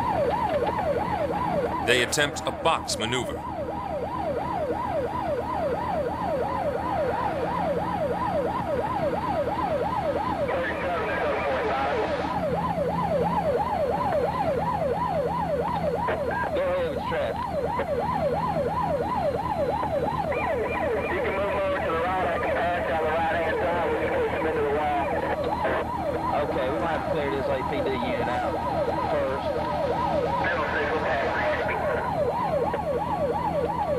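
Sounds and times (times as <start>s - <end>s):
police siren yelping: 0.0s - 33.9s.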